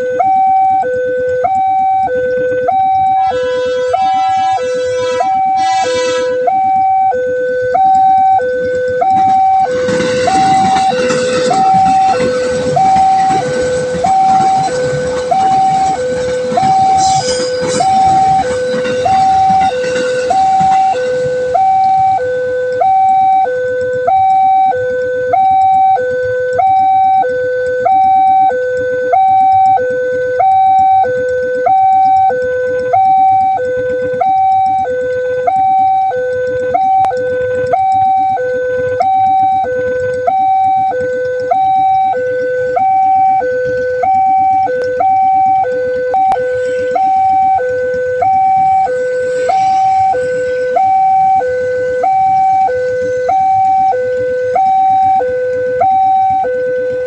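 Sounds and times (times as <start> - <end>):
two-tone crossing alarm: 0.0 - 57.0
passing train rush: 0.7 - 25.3, 29.6 - 57.0.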